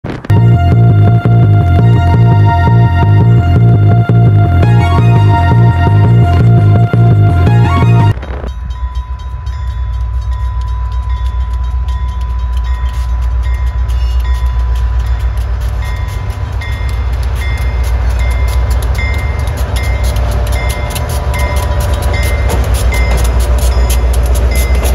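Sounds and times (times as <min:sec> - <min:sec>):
diesel locomotives rumbling: 0:00.0 - 0:24.9
music: 0:00.3 - 0:24.9
railway crossing bell dinging: 0:00.5 - 0:24.9.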